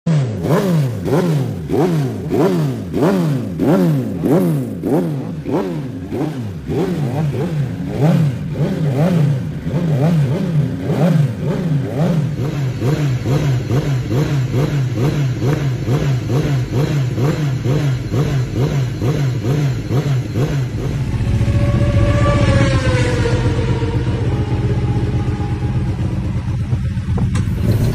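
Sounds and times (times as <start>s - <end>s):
motorcycle engine revving: 0.1s - 27.9s.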